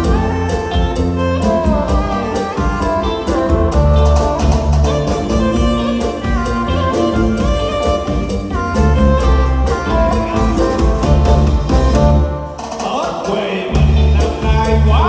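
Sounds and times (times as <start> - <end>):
sustained lead melody: 0.0 - 12.7
bass guitar: 0.0 - 12.8, 13.7 - 15.0
electric guitar: 0.0 - 12.8, 13.6 - 15.0
drum kit steady beat: 0.0 - 15.0.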